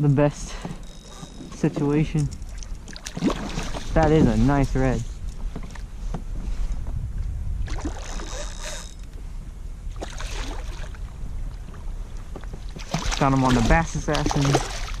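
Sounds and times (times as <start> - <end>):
water moving along a hull: 0.0 - 15.0
wind buffeting microphone: 0.3 - 15.0.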